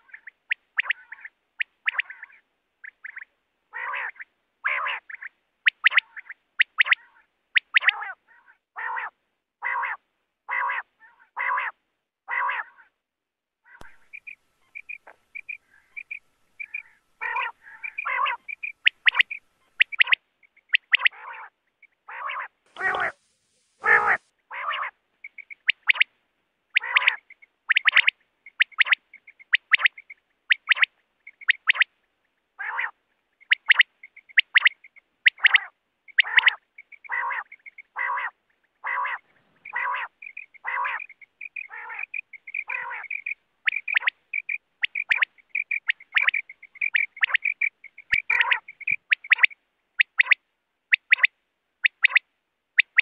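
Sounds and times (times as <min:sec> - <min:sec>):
quail calling: 0:00.0 - 0:12.9, 0:13.7 - 0:23.2, 0:23.8 - 0:26.1, 0:26.7 - 0:31.9, 0:32.6 - 0:52.2, 0:52.8 - 0:53.0.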